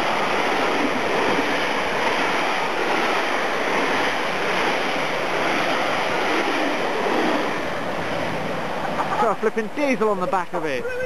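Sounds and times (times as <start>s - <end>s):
train rushing through station: 0.0s - 11.0s.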